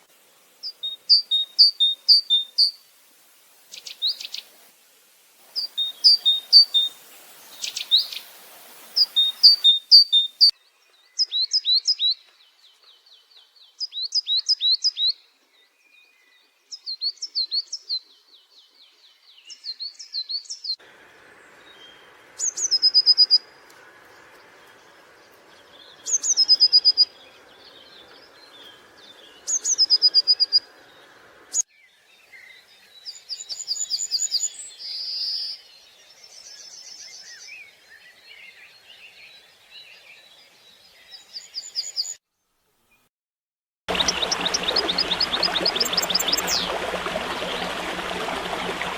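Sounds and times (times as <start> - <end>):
songbirds chirping and trilling: 5.6 - 42.2, 43.9 - 48.9.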